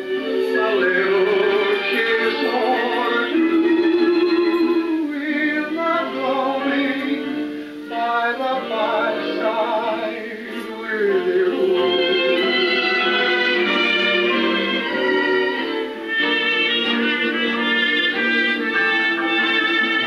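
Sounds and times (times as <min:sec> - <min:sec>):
old dance band music: 0:00.0 - 0:20.0.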